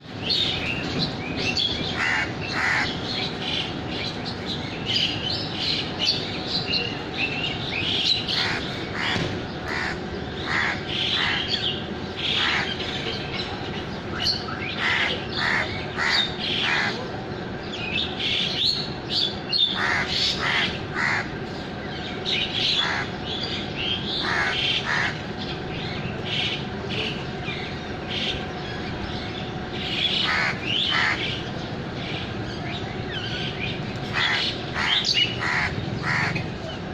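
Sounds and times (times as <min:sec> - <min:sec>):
birds chirping and calling: 0:00.0 - 0:36.9
steady low hum: 0:00.0 - 0:36.9.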